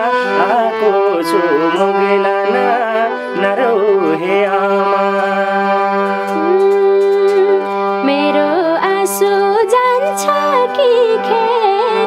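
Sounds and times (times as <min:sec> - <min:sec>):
folk melody with bending notes: 0:00.0 - 0:12.0
held drone: 0:00.0 - 0:12.0.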